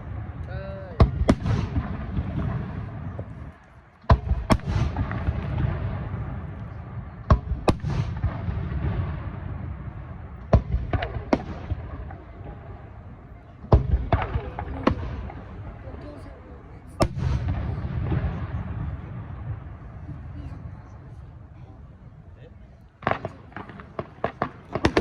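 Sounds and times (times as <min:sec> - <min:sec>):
low rolling echo: 0:00.0 - 0:25.0.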